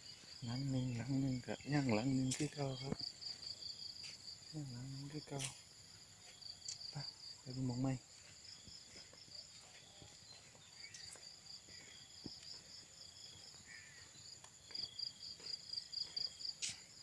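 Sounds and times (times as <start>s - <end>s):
insects calling shrilly: 0.0s - 17.0s.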